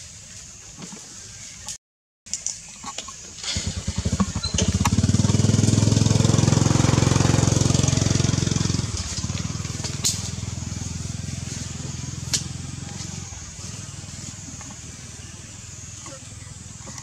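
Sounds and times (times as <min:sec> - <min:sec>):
small engine running: 0:03.2 - 0:17.0.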